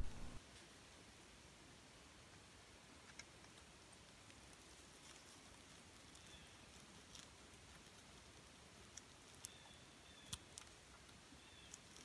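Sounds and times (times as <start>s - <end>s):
moss and bark crackling: 2.1s - 12.0s.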